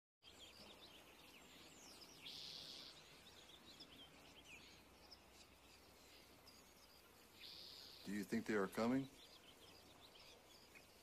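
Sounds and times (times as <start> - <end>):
faint birds chirping: 0.2 - 11.0.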